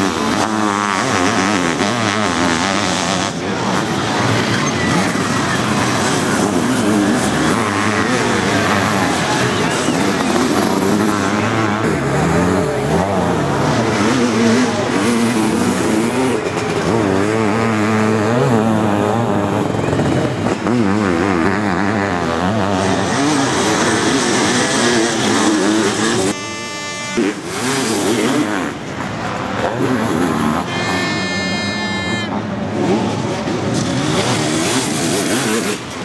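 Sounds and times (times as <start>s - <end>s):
motorcycle engines revving hard: 0.0s - 36.0s.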